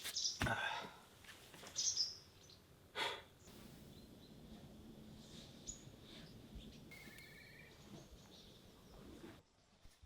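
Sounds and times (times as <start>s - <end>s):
faint forest ambience: 0.0s - 10.0s.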